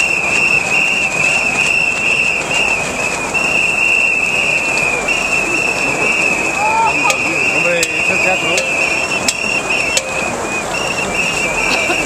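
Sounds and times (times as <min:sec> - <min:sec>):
crowd murmur: 0:00.0 - 0:12.0
shrill whistle-like tone: 0:00.0 - 0:12.0.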